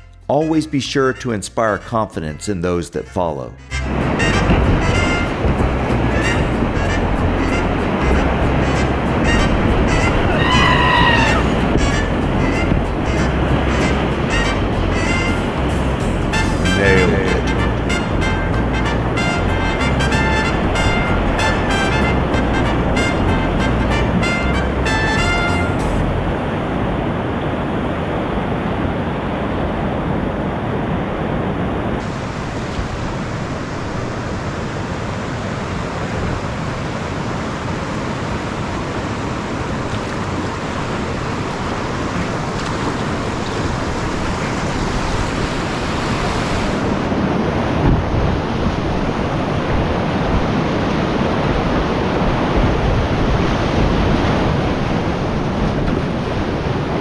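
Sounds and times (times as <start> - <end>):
wind noise on microphone: 3.6 - 57.0
rushing whitewater rapids: 3.7 - 57.0.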